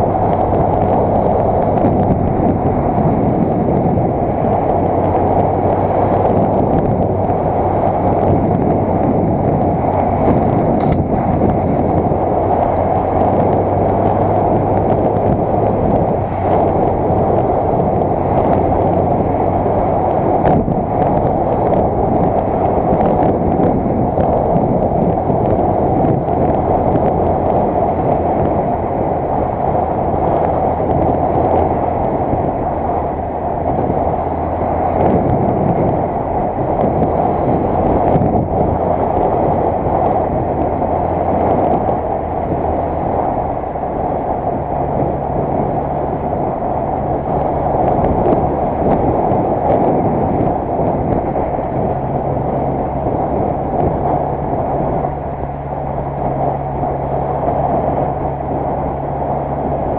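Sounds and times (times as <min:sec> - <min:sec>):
low engine hum: 0:00.0 - 0:59.9
wind and road noise: 0:00.0 - 0:59.9.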